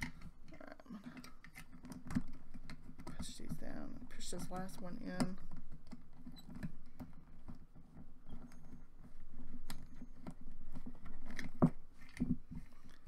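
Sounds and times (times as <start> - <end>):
small clicks and scratches: 0.0 - 13.0.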